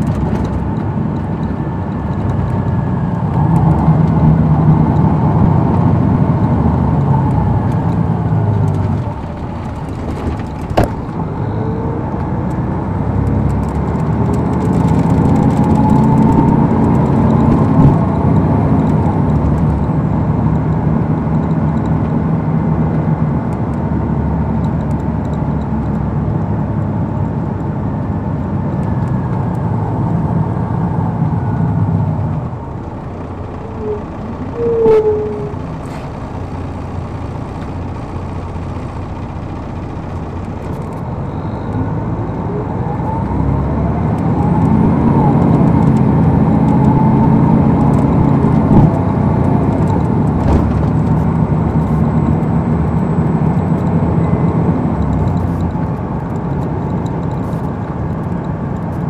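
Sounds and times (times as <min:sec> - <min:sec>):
bus diesel engine under load: 0:00.0 - 0:59.0.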